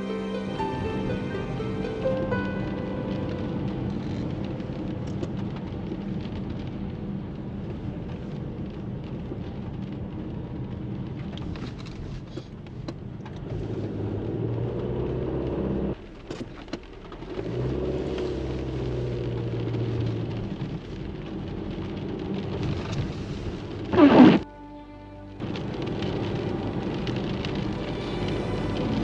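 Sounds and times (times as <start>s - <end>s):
car engine and road hum: 0.0s - 29.0s
rain hissing and spray: 0.0s - 29.0s.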